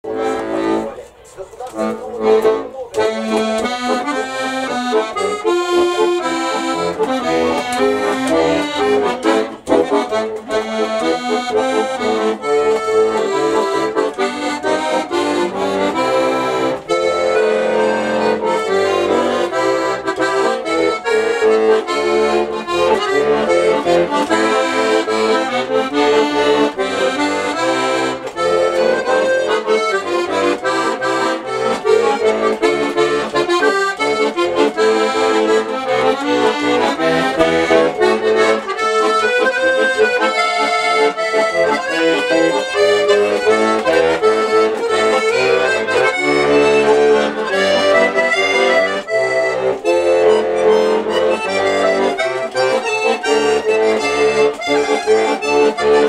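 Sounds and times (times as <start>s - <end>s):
button accordion melody: 0.0s - 56.0s.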